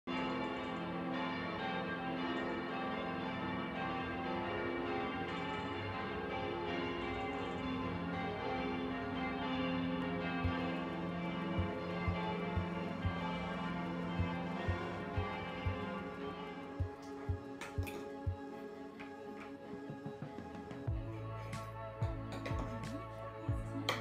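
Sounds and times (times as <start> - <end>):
chiming bell-like music: 0.1 - 20.0, 20.9 - 24.0.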